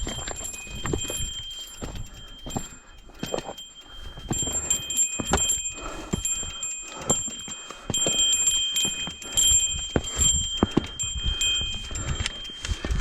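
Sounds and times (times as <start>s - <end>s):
bike knocking and rattling: 0.0s - 13.0s
high ringing tones: 0.0s - 13.0s.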